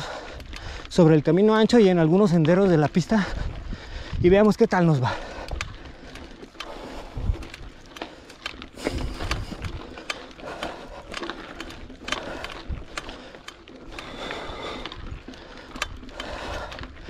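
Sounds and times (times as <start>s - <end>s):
bike rattling over rocky track: 0.0s - 17.0s.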